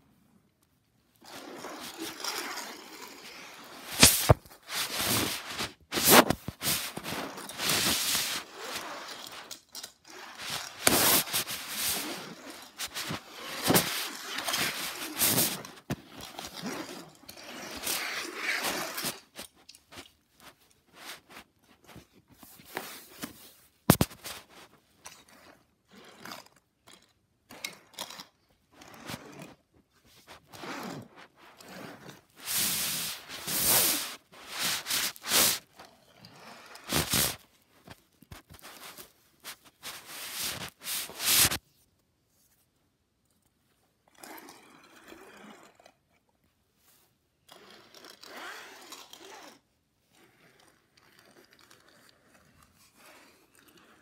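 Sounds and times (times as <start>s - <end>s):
toy cars scraping on fabric mat: 1.2s - 41.6s, 47.5s - 54.0s.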